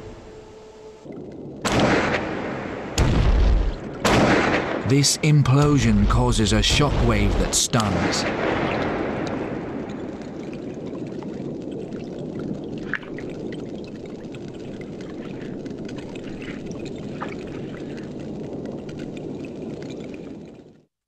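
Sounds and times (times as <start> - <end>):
underwater watery rush: 1.2 - 20.6.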